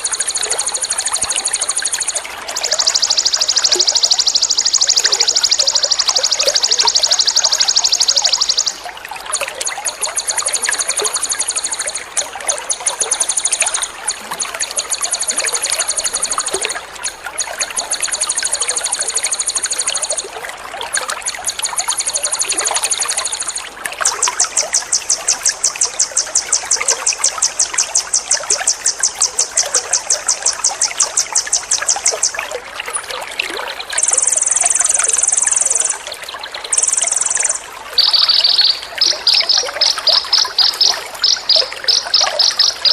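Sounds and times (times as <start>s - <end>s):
songbird trilling: 0.0s - 9.0s, 9.6s - 16.9s, 21.4s - 32.5s, 34.0s - 36.0s, 36.7s - 42.9s
water trickling: 0.0s - 42.9s.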